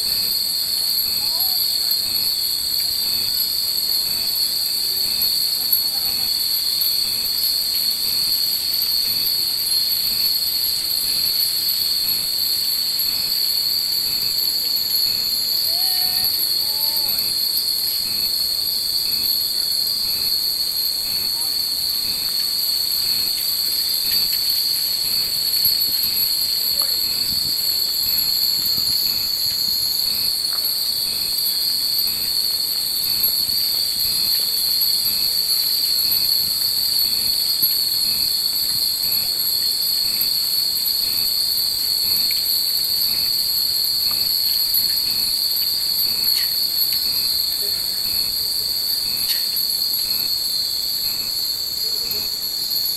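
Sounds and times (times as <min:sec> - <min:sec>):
cicadas droning: 0:00.0 - 0:52.9
faint pulsing insect call: 0:00.0 - 0:52.9.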